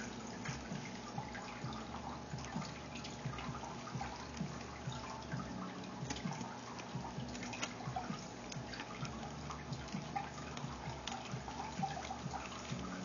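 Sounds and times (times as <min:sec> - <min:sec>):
low steady hum: 0:00.0 - 0:13.0
bubble wrap crinkling: 0:02.4 - 0:13.0.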